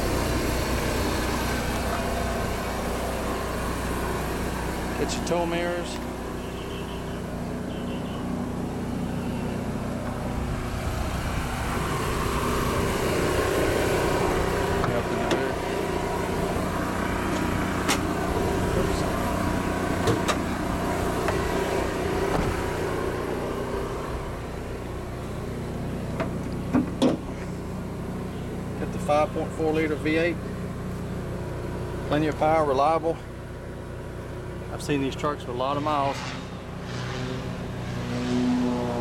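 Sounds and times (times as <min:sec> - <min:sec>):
generator humming: 0:00.0 - 0:39.0.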